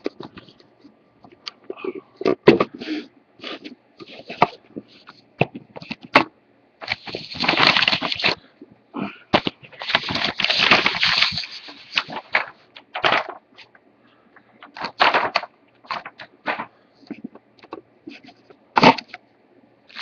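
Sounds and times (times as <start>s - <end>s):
papers and cardboard rustling: 0.0s - 1.5s, 2.2s - 8.5s, 9.3s - 13.8s, 14.4s - 19.1s.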